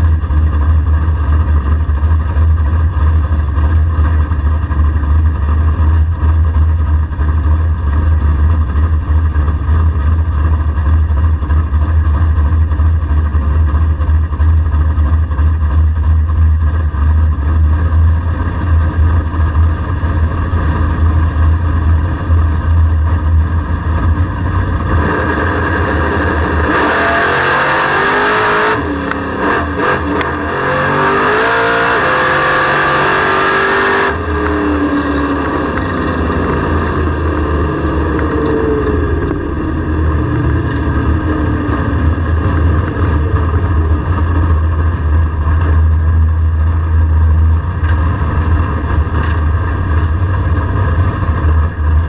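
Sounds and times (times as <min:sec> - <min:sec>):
car engine droning at low revs: 0:00.0 - 0:52.0.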